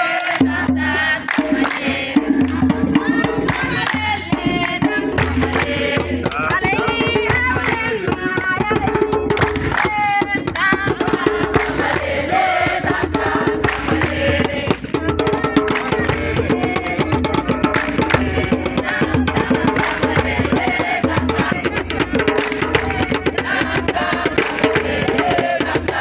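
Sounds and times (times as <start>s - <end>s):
voices singing: 0.0s - 26.0s
drums beaten fast: 0.2s - 26.0s.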